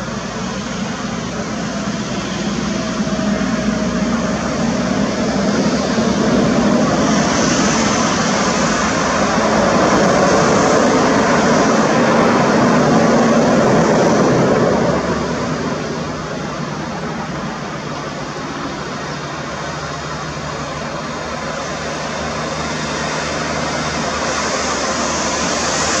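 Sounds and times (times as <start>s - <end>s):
jet engines roaring with whine: 0.0s - 26.0s.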